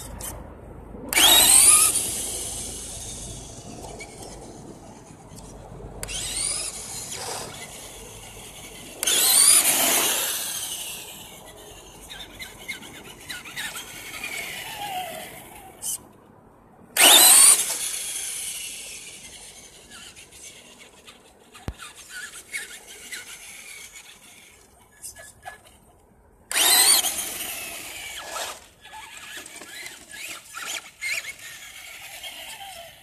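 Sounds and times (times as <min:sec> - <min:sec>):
rc truck electric whine: 0:00.0 - 0:00.4, 0:01.0 - 0:16.1, 0:16.9 - 0:33.0.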